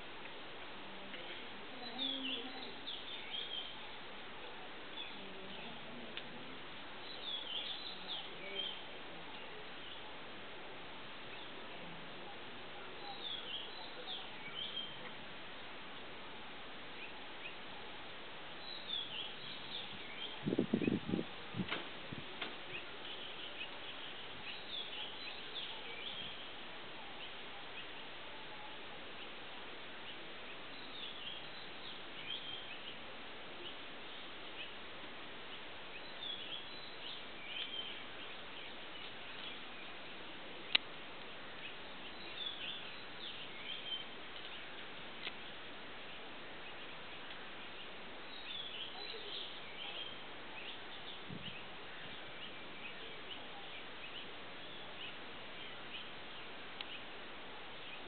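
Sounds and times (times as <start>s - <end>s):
steady background hiss: 0.0s - 58.0s
birds chirping: 1.0s - 10.3s, 11.0s - 15.2s, 16.8s - 58.0s.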